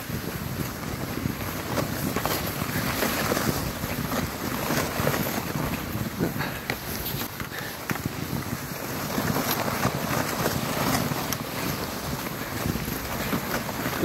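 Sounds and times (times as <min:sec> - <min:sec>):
footsteps crunching in snow: 0:00.0 - 0:14.0
wind buffeting microphone: 0:00.0 - 0:14.0.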